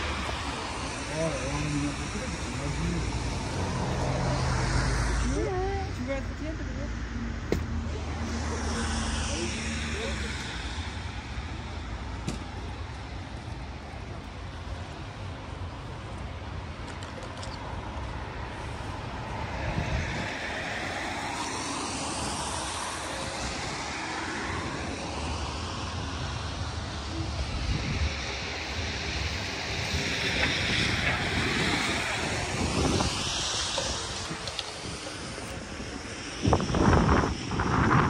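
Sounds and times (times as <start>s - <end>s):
vehicle passing rush: 0.0s - 38.0s.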